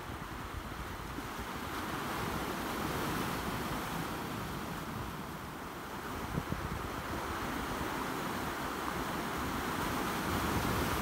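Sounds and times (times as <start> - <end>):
sea surf on rocky shore: 0.0 - 11.0.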